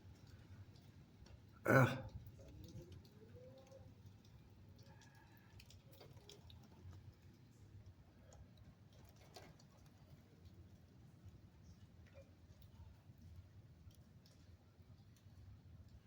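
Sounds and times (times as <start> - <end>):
faint rain pattering and dripping: 0.0 - 16.0.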